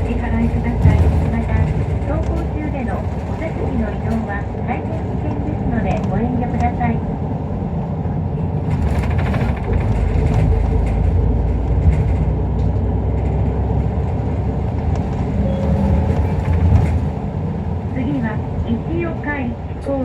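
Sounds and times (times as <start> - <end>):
bus diesel engine running: 0.0 - 20.0
road rumble: 0.0 - 20.0.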